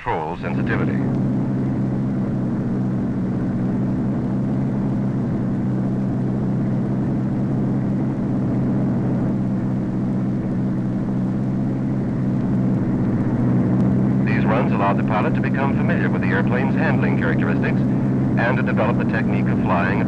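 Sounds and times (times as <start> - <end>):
aircraft engine drone: 0.0 - 20.0.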